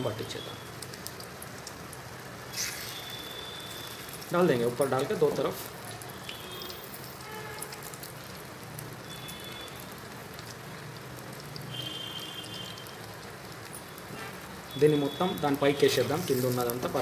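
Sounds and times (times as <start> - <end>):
egg and bread sizzling in oil: 0.0 - 17.0.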